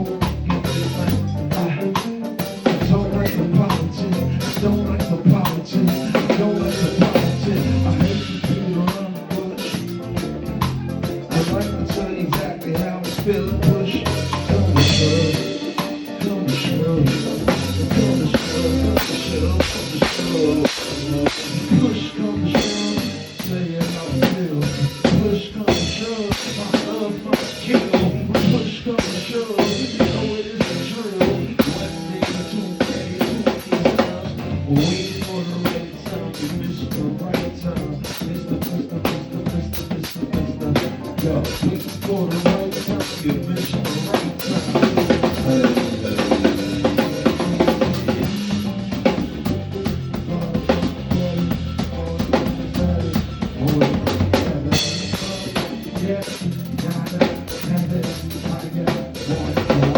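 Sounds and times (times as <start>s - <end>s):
drum kit beat: 0.0s - 59.9s
live band playing: 0.0s - 59.9s.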